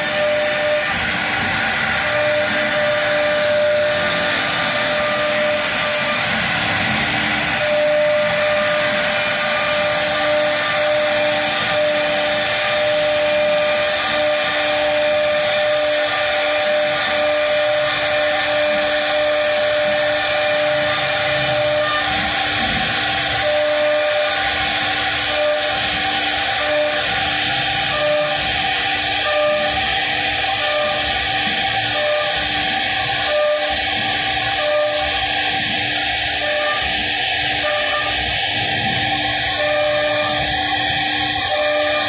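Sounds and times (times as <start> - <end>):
router spindle whine and hiss: 0.0 - 42.0.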